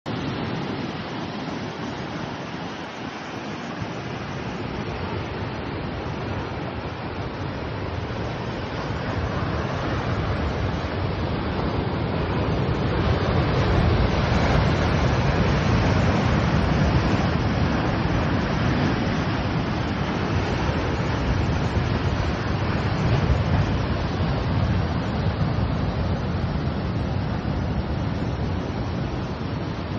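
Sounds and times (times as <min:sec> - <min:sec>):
sea surf rushing: 0:00.1 - 0:29.9
wind on the microphone: 0:00.1 - 0:29.9.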